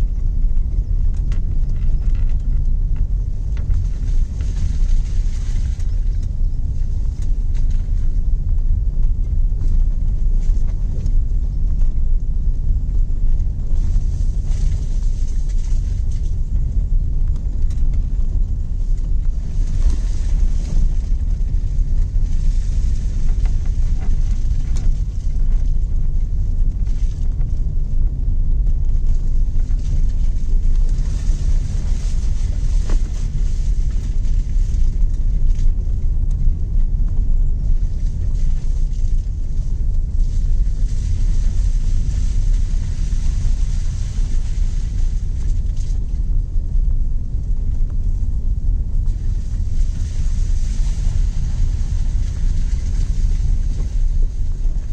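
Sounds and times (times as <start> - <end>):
car engine and tyres rumbling: 0.0 - 54.9.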